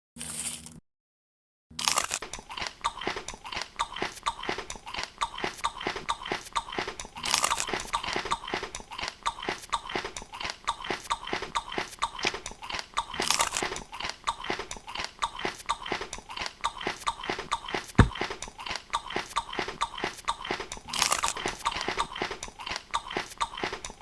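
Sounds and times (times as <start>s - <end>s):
crunchy food chewing: 1.8s - 24.0s.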